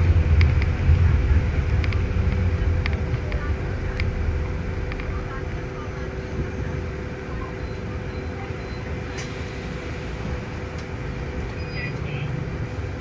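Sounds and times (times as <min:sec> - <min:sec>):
bus machinery low rumble: 0:00.0 - 0:13.0.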